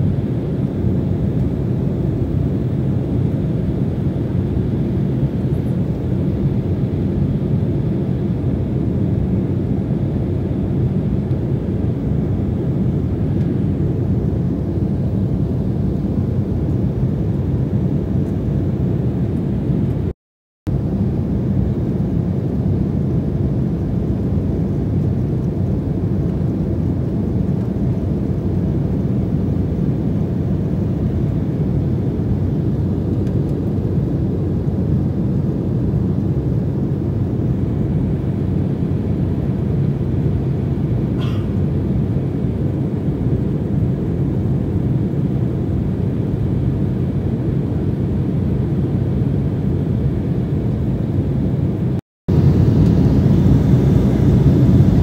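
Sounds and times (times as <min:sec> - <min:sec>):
airliner cabin engine rumble: 0:00.0 - 0:20.1, 0:20.7 - 0:55.0.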